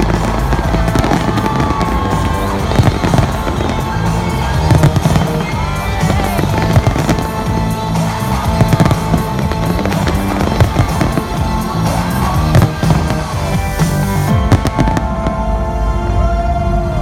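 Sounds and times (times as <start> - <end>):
fireworks bursting and crackling: 0.0 - 15.8
loud music with pulsing bass: 0.0 - 17.0.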